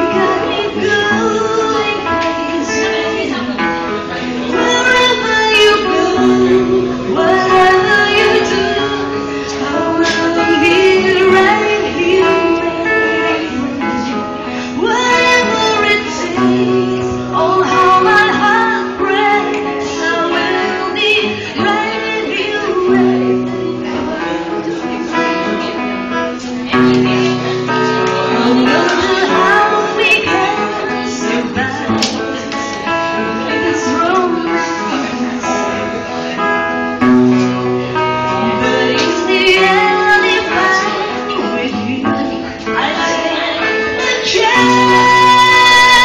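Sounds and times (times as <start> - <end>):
instrumental backing music: 0.0 - 46.0
woman singing: 0.0 - 46.0.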